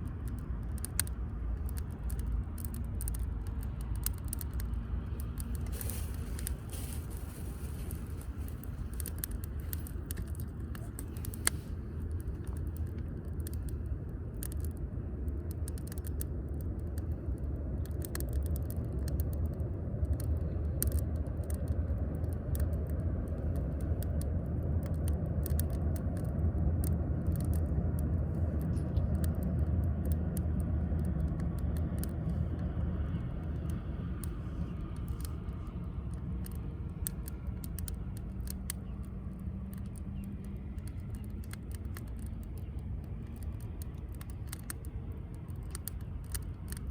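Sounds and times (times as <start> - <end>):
fire low rumble: 0.0 - 46.9
firewood crackling and popping: 0.0 - 46.9.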